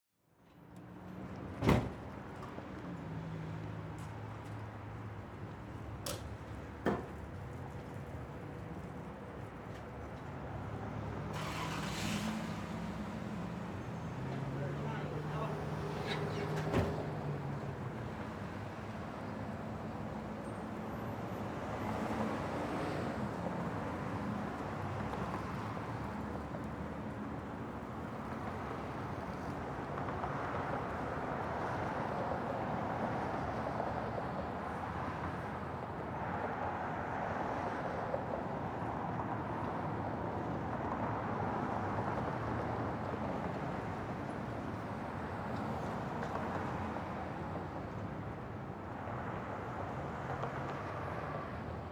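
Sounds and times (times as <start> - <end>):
vehicle and traffic noise: 0.3 - 51.9.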